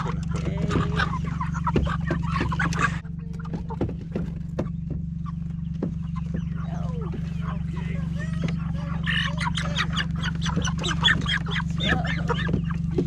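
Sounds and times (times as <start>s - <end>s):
chickens clucking and squawking: 0.0s - 13.0s
steady low hum: 0.0s - 13.0s.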